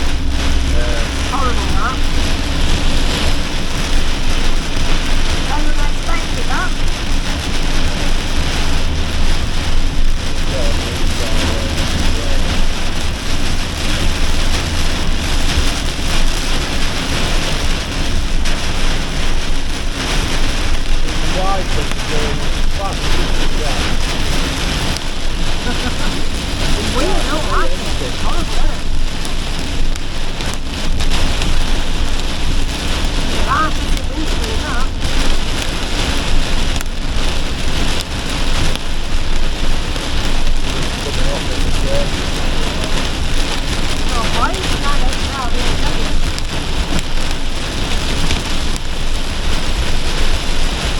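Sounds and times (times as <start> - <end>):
heavy rain on vehicle roof: 0.0 - 50.9
low rumble of moving van: 0.0 - 50.9.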